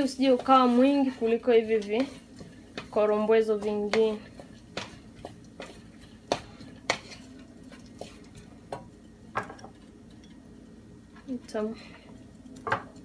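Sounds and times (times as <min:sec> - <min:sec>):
wooden spoon stirring rice in pan: 0:00.0 - 0:11.7.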